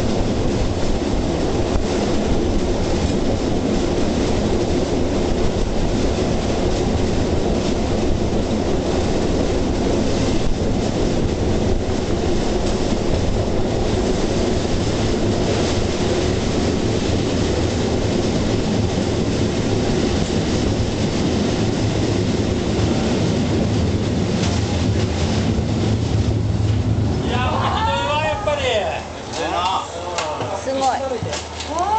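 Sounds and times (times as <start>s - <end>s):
steel wheels rumbling on rails: 0.0s - 31.9s.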